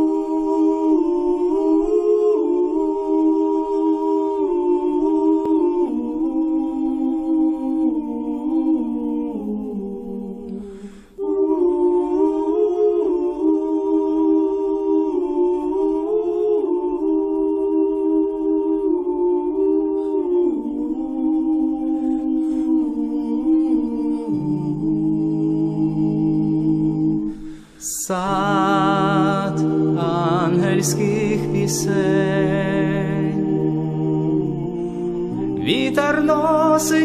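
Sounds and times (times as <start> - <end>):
slow vocal harmony singing: 0.0 - 37.0.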